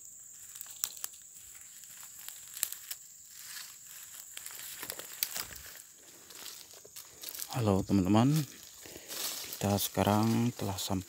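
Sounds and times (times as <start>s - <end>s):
footsteps crunching dry leaves: 0.0s - 11.0s
high-pitched insect drone: 0.0s - 11.0s.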